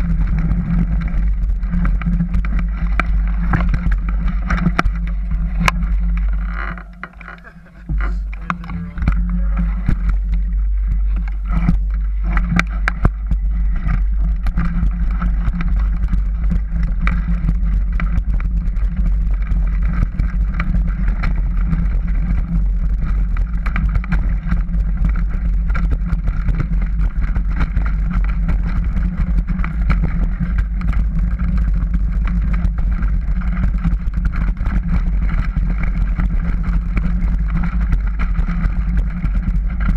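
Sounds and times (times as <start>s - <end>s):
bike rattling on dirt trail: 0.0s - 39.9s
wind buffeting microphone: 0.0s - 39.9s.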